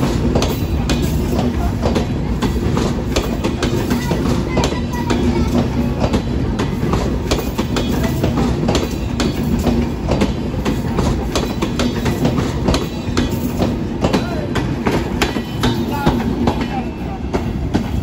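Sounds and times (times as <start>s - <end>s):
train coaches rumbling: 0.0s - 18.0s
train wheels clacking over rail joints: 0.0s - 18.0s.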